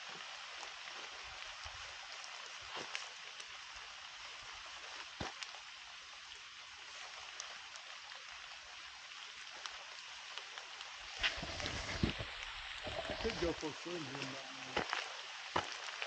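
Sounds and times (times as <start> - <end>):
light rain on wet leaves: 0.0 - 16.0.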